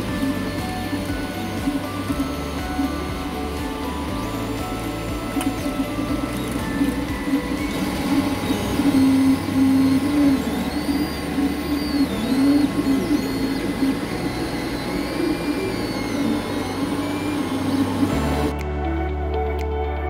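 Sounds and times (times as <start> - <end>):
stepper motors whining: 0.0 - 18.6
cooling fans whirring: 0.0 - 20.0.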